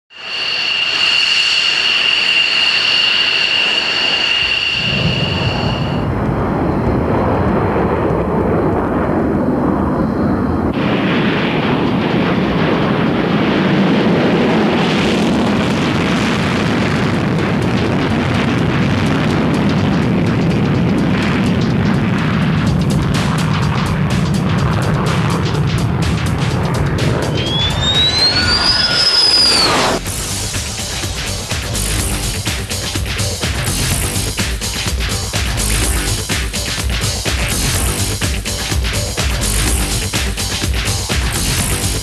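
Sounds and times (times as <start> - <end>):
jet engine whine and roar: 0.0 - 42.0.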